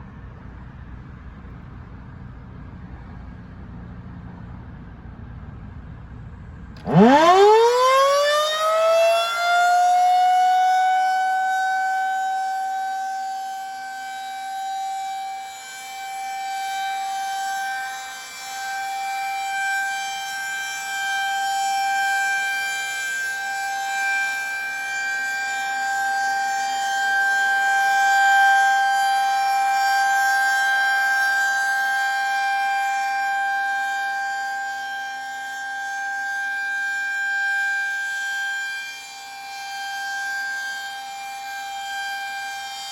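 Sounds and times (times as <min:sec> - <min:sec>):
outdoor warning siren: 0:06.7 - 0:42.9.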